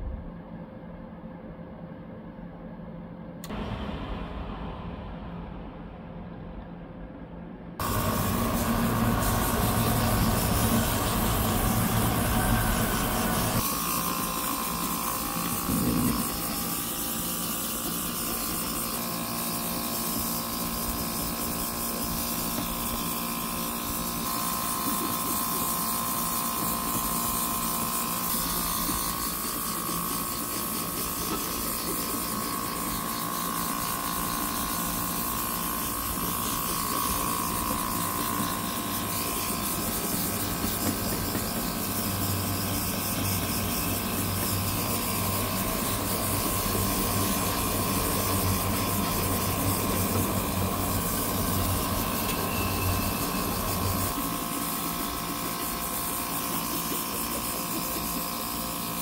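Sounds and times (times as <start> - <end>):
small compressor humming: 3.4 - 6.6, 7.4 - 59.0
airbrush hissing: 7.8 - 58.2.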